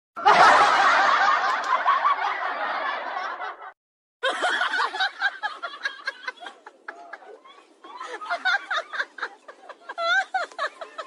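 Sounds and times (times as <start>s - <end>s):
canned laughter: 0.2s - 11.0s.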